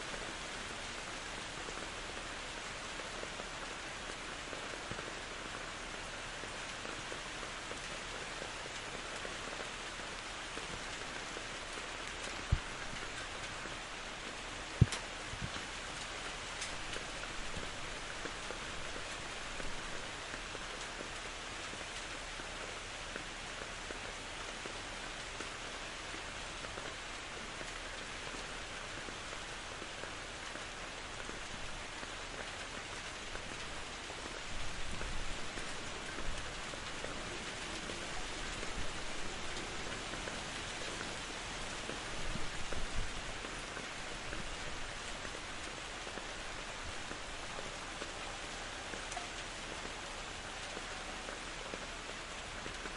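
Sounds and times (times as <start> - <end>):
steady rain falling: 0.0 - 52.9
raindrop taps: 8.7 - 52.9.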